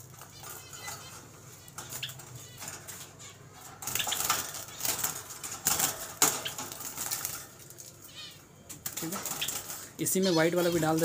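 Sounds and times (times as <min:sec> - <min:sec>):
cage wire rattling: 0:00.0 - 0:08.2, 0:08.8 - 0:11.0
birds' wingbeats fluttering: 0:00.0 - 0:11.0.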